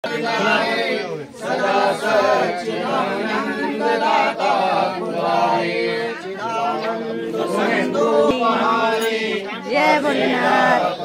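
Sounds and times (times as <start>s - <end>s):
people chanting mantras together: 0.0s - 11.0s.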